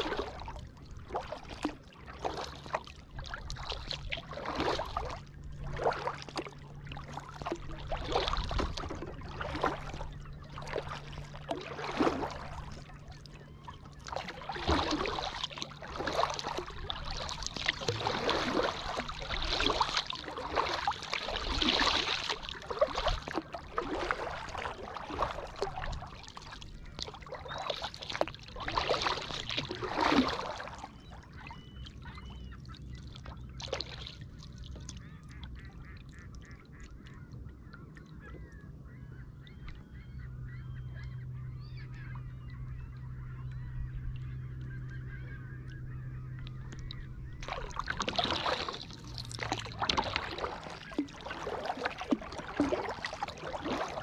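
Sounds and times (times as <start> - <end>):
kayak paddle strokes in water: 0.0 - 32.0, 33.0 - 36.5, 45.7 - 54.0
water splashes and drips: 0.0 - 32.1, 32.9 - 36.8, 46.4 - 54.0.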